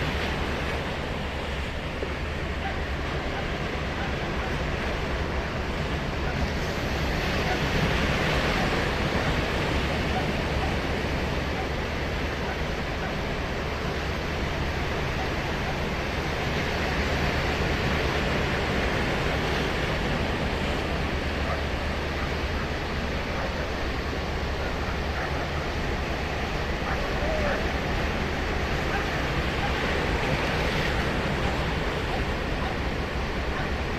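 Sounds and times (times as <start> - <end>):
surf washing up a beach: 0.0 - 33.9.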